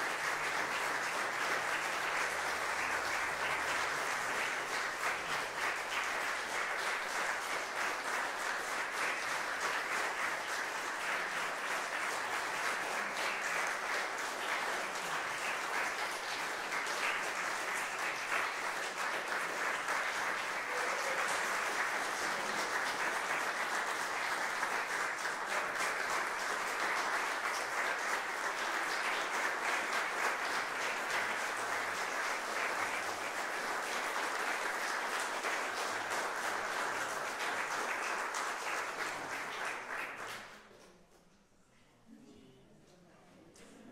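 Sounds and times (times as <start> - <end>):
audience applauding: 0.0 - 40.7.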